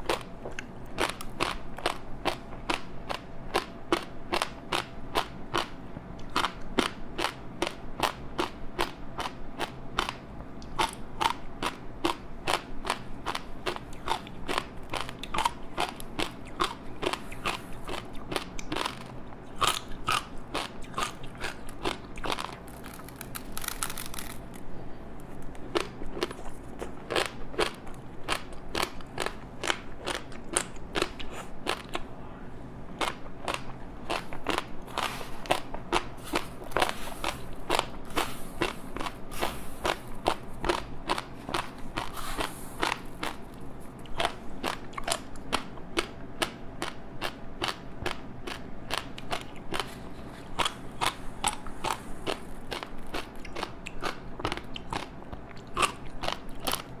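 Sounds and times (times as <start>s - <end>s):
crispy snack chewing: 0.0s - 32.1s, 33.0s - 57.0s.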